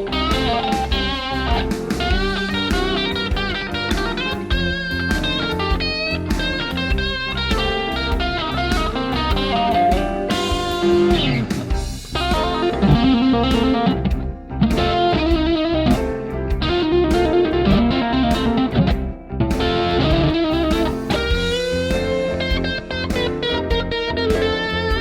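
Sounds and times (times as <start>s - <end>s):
electric guitar through an amp: 0.0s - 25.0s.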